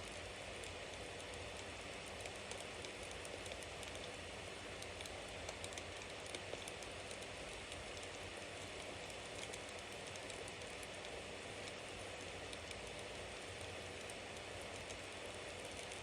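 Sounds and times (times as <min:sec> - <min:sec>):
bonfire crackling and hissing: 0:00.0 - 0:16.0.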